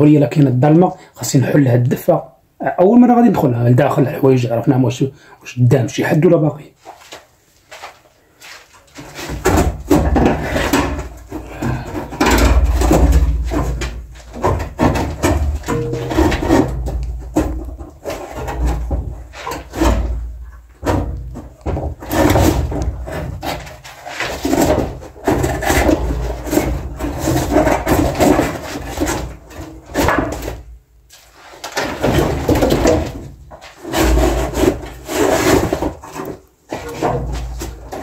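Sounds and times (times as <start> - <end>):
wood scraping and rubbing: 6.8 - 38.0.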